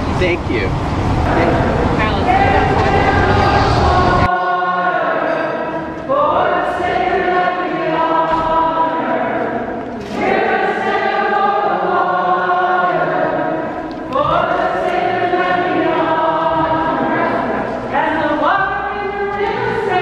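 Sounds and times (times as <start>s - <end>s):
group of voices singing: 1.2s - 20.0s.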